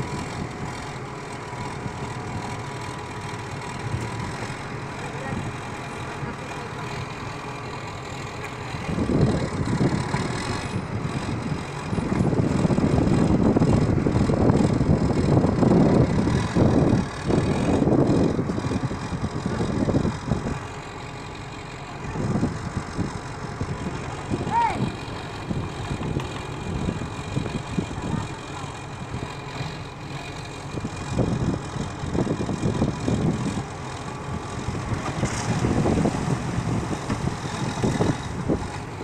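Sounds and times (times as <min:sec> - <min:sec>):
heavy machine engine rumbling: 0:00.0 - 0:39.0.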